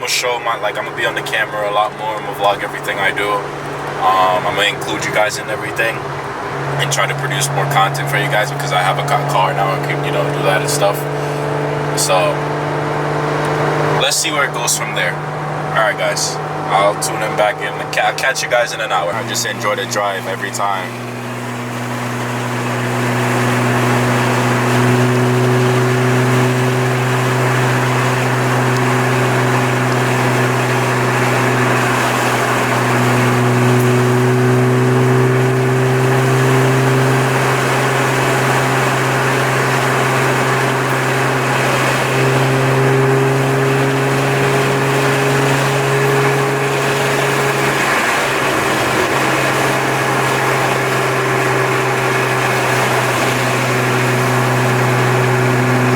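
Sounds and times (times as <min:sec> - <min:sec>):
car engine exhaust drone: 0:00.0 - 0:55.9.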